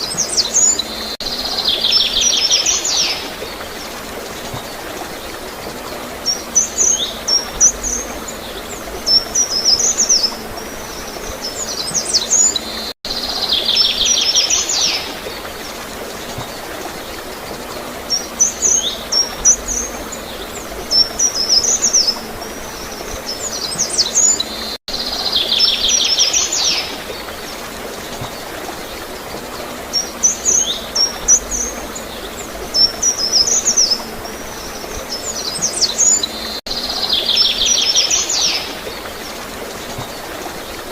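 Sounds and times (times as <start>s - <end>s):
flowing water gurgling: 0.0s - 40.9s
songbirds chirping: 0.0s - 40.9s.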